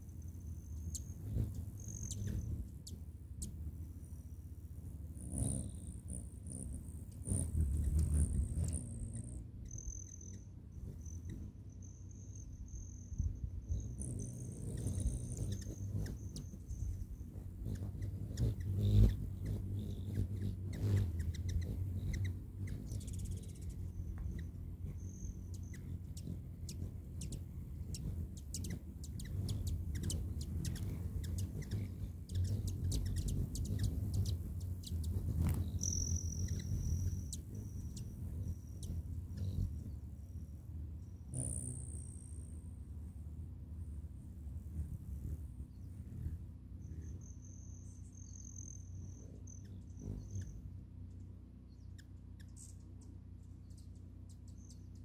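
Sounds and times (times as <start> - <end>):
thin high whines: 0.0 - 50.6
hummingbird wings humming: 0.0 - 55.0.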